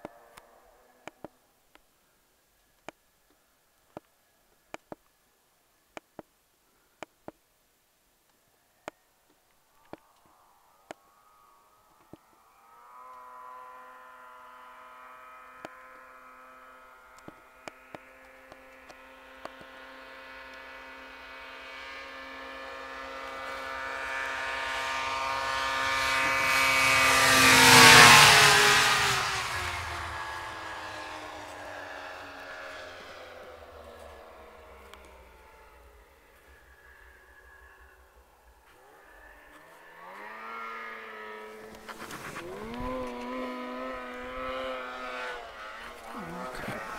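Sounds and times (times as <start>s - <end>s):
snowmobile engine passing by: 0.0s - 1.2s, 9.9s - 46.9s.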